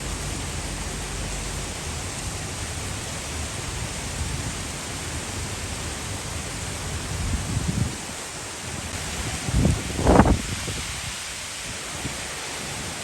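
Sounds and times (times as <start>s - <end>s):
heavy rain hiss: 0.0s - 13.0s
low wind rumble: 0.0s - 13.0s.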